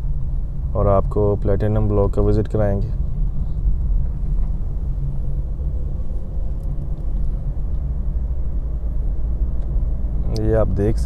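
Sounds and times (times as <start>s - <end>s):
vehicle rumbling along road: 0.0s - 11.0s.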